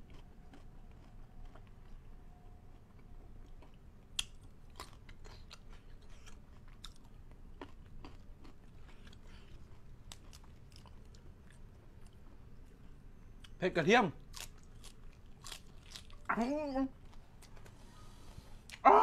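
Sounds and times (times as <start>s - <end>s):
person chewing and crunching food: 0.0s - 13.6s, 14.2s - 16.4s, 17.0s - 17.9s.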